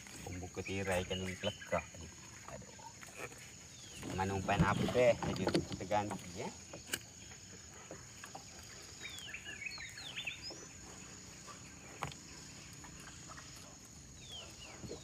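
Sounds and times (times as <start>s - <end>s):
birds chirping: 0.0s - 15.0s
high insect drone: 0.0s - 15.0s.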